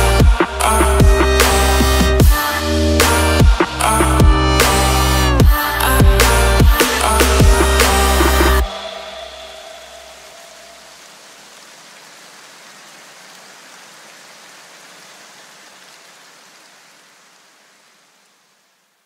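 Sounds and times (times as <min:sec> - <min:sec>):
steady rain-like hiss: 0:00.0 - 0:19.0.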